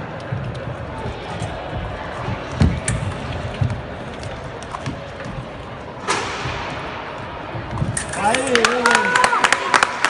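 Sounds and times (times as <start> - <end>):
echoing hall noise: 0.0 - 10.0.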